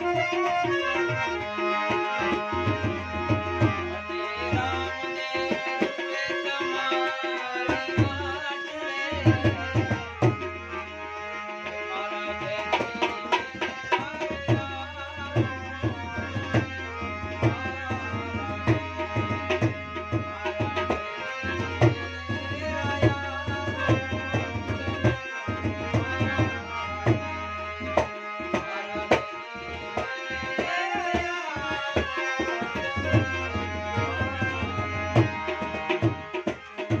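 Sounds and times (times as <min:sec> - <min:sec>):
harmonium melody: 0:00.0 - 0:37.0
tabla rhythm: 0:00.0 - 0:37.0.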